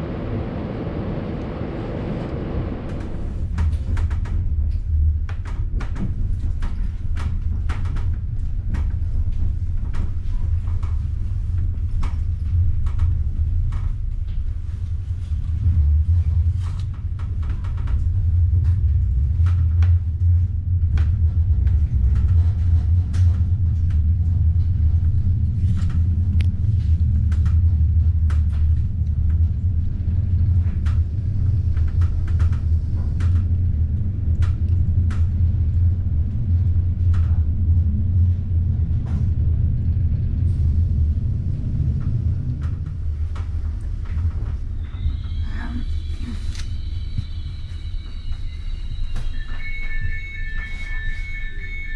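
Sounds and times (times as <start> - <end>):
train rumble inside carriage: 0.0 - 51.9.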